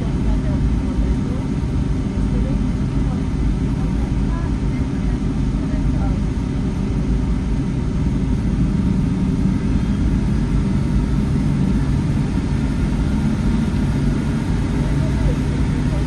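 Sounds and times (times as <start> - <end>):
jet engines low rumble: 0.0 - 16.0.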